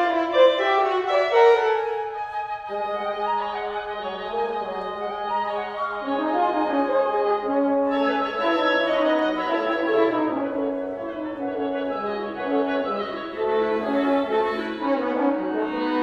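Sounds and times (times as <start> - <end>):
woodwind quintet playing: 0.0 - 16.0.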